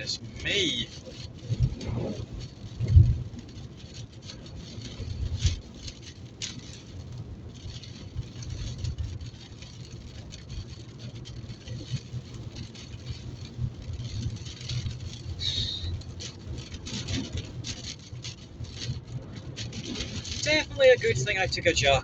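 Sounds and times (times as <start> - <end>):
low hum of car driving: 0.0 - 22.0
rain tapping on car roof: 0.0 - 22.0.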